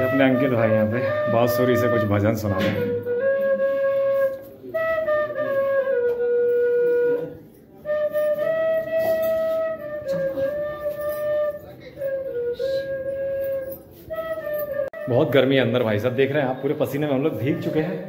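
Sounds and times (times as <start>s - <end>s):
bamboo flute melody: 0.0s - 18.0s.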